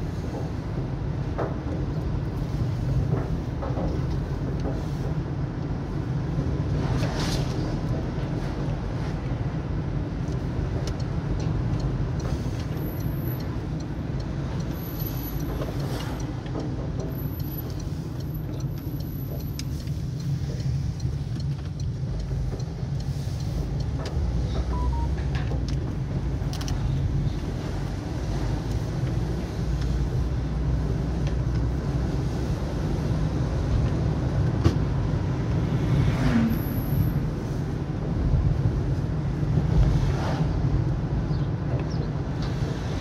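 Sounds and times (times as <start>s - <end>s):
car engine and tyres rumble: 0.0s - 43.0s.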